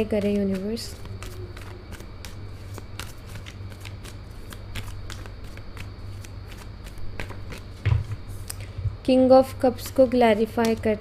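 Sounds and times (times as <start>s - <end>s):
cards being shuffled: 0.0s - 8.6s, 10.4s - 11.0s
steady low hum: 0.0s - 11.0s.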